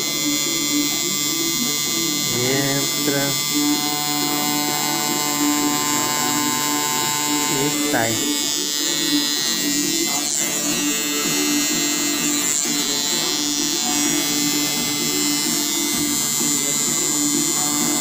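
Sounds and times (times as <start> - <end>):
tattoo machine buzzing: 0.0 - 18.0.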